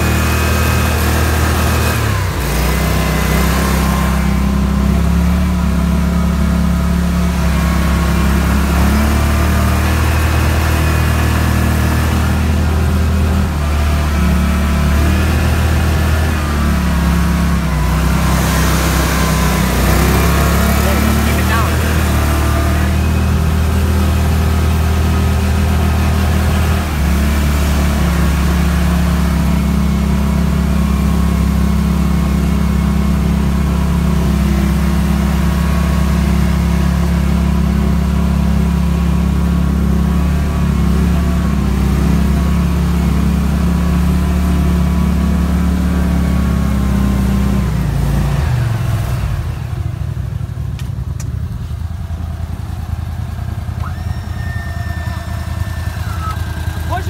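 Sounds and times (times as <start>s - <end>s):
boat motor running: 0.0s - 57.0s.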